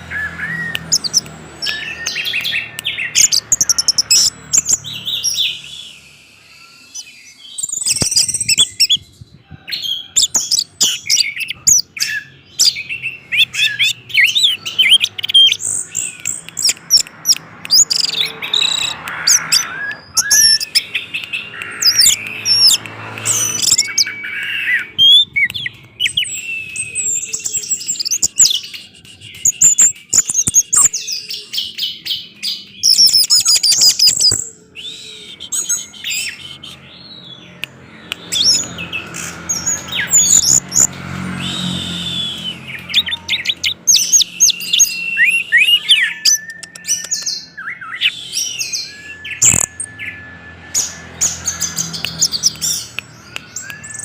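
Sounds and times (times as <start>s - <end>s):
thrush singing: 0.0s - 8.8s, 9.7s - 54.0s.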